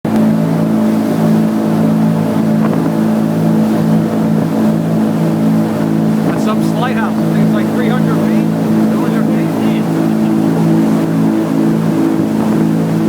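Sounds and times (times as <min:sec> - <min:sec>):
motorboat engine drone: 0:00.1 - 0:13.0.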